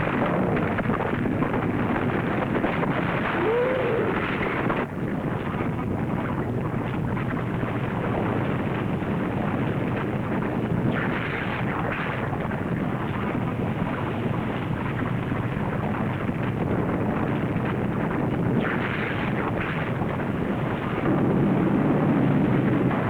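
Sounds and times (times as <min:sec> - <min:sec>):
volcanic eruption rumble: 0:00.0 - 0:23.0.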